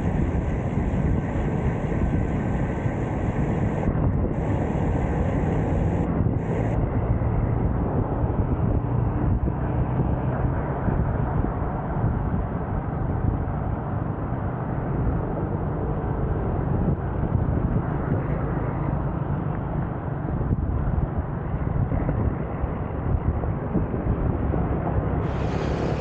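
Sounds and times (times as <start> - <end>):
road noise: 0.0 - 26.0
wind rumble on microphone: 0.0 - 26.0.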